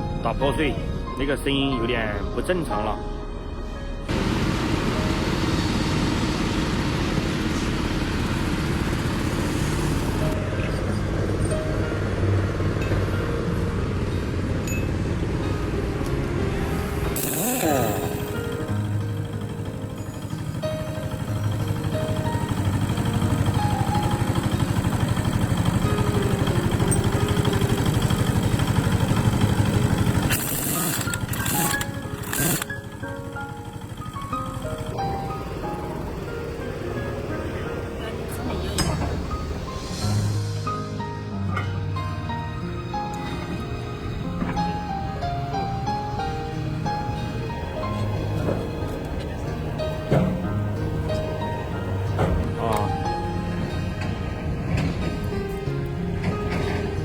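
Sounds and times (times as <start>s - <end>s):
excavator diesel engine running: 4.1s - 57.0s.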